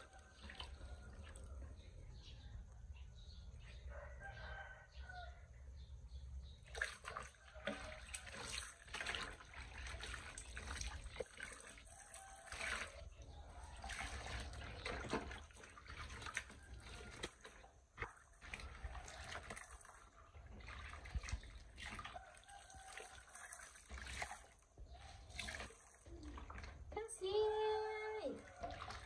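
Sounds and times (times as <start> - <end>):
water splashing and trickling: 0.0 - 29.0.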